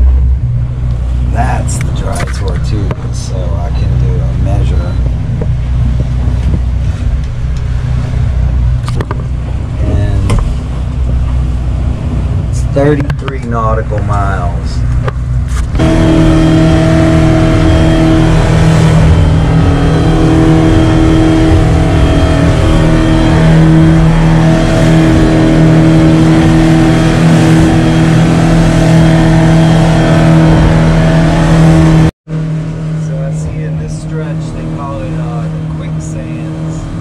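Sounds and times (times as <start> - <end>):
outboard motor droning: 0.0 - 37.0
water rushing along a hull: 0.0 - 37.0.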